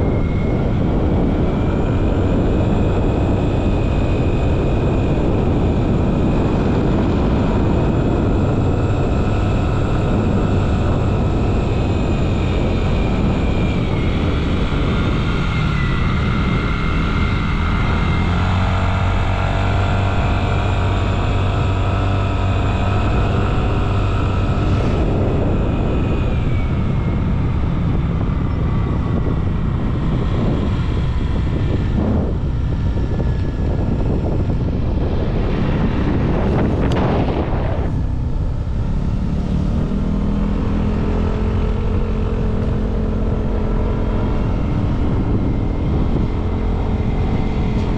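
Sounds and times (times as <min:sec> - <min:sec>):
motorcycle engine running: 0:00.0 - 0:47.9
wind rushing over microphone: 0:00.0 - 0:47.9.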